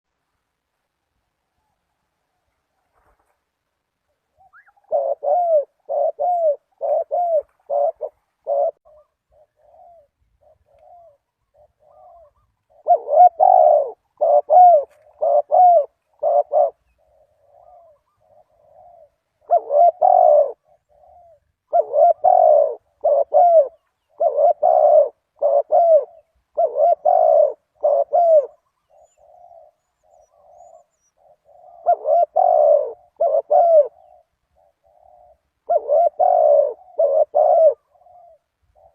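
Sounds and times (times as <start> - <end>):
dove cooing: 4.1 - 38.9.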